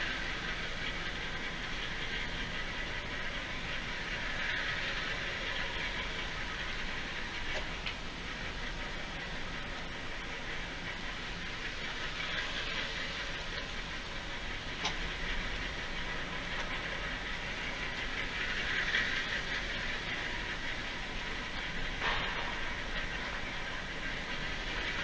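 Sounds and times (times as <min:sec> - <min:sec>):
tractor engines rumbling: 0:00.0 - 0:25.0.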